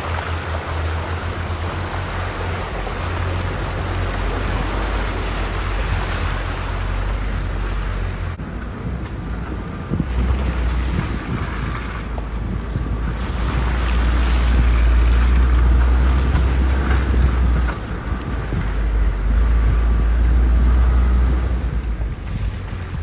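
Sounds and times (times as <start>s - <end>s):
vehicle rumble on rough track: 0.0s - 23.0s
wind buffeting microphone: 0.0s - 23.0s.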